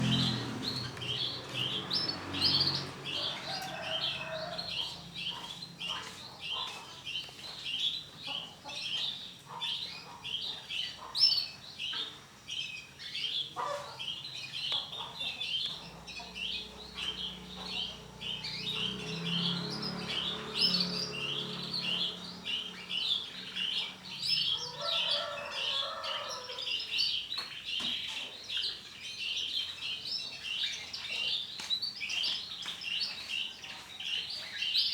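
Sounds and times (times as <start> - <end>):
canaries chirping: 0.0 - 34.9.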